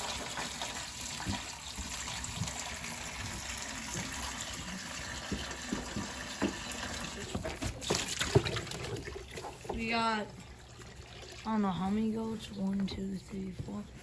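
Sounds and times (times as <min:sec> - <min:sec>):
water from hose pouring into trough: 0:00.0 - 0:11.8.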